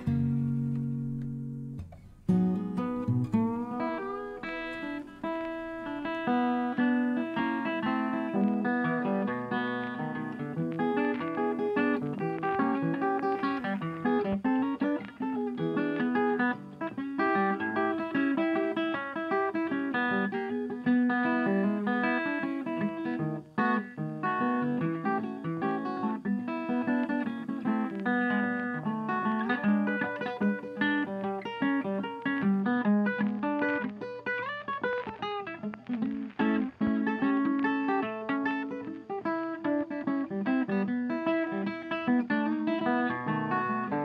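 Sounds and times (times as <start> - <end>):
plucked acoustic guitar music: 0.0 - 44.0.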